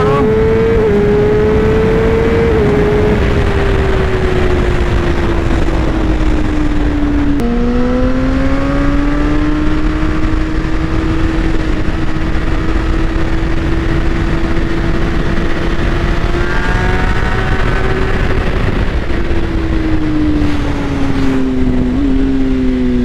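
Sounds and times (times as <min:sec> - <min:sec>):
motorcycle engine at high speed: 0:00.0 - 0:23.0
wind noise: 0:00.0 - 0:23.0.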